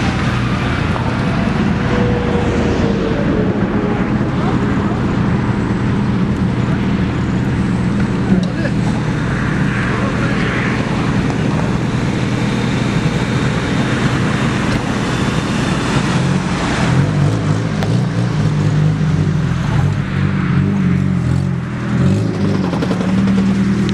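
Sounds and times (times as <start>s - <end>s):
off-road engines at low revs: 0.0s - 23.9s.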